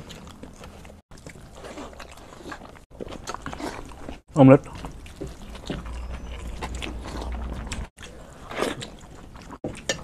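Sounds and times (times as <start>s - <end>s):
people chewing and crunching: 0.0s - 10.0s.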